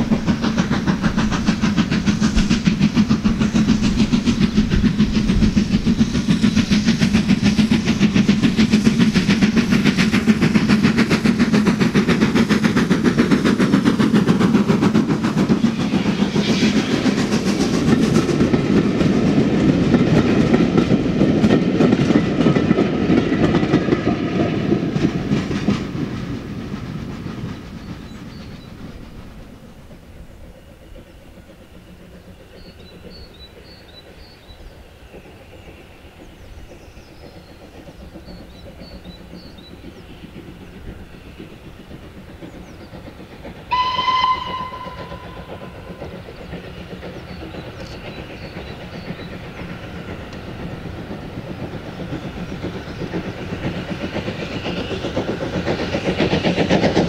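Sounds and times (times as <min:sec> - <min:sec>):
steam locomotive exhaust beating: 0:00.0 - 0:57.0
train coaches rolling on track: 0:00.0 - 0:57.0.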